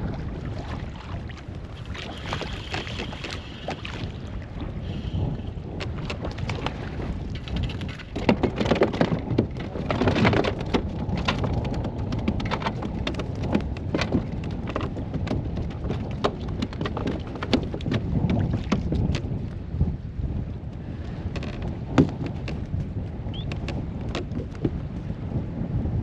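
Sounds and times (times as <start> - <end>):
water splashing against kayak: 0.0 - 26.0
wind buffeting microphone: 0.0 - 26.0.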